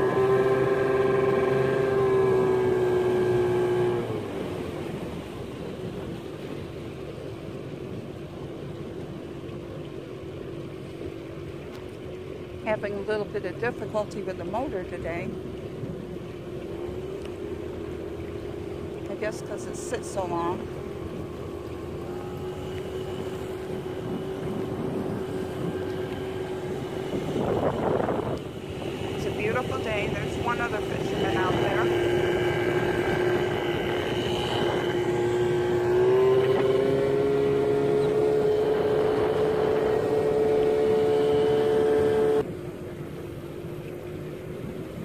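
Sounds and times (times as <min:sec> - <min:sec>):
boat motor running: 0:00.0 - 0:45.0
water noise: 0:00.0 - 0:45.0
wind: 0:00.0 - 0:45.0.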